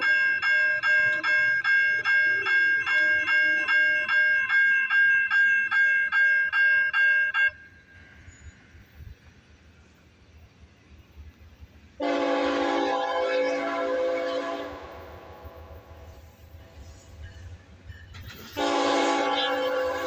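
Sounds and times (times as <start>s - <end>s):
crossing bell ringing: 0.0s - 9.0s, 12.3s - 20.0s
faint outdoor noise: 0.0s - 20.0s.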